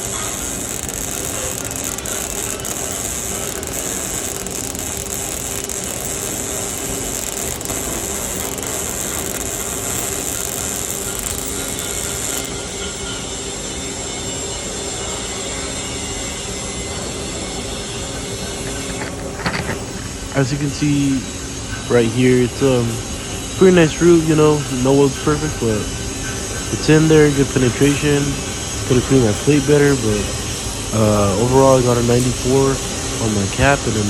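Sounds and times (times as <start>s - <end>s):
welding arc crackling: 0.0s - 13.8s, 18.2s - 34.0s
harsh high hiss: 0.0s - 34.0s.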